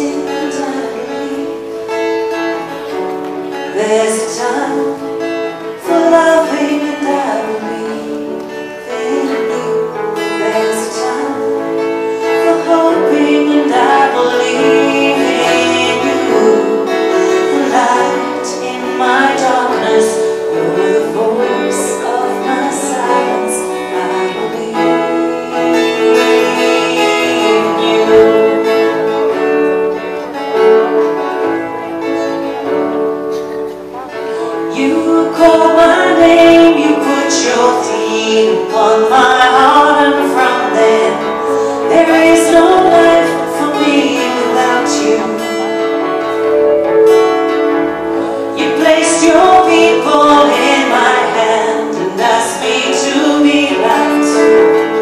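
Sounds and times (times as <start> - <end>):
woman singing: 0.0 - 31.3, 34.1 - 55.0
acoustic guitar: 0.0 - 55.0
backing musicians holding chords: 0.0 - 55.0.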